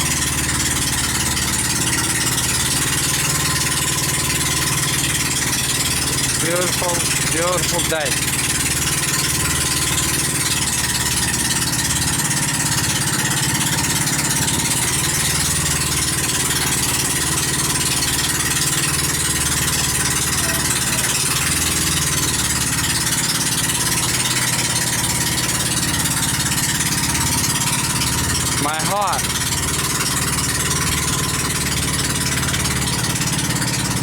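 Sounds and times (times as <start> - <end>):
boat engine running steadily: 0.0 - 34.0.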